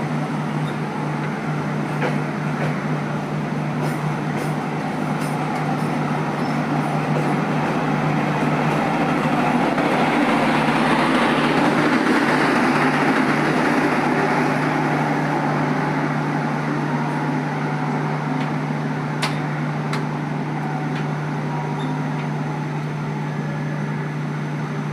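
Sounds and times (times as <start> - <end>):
diesel train engine hum: 0.0 - 24.9
train wheel and rail noise: 0.0 - 24.9.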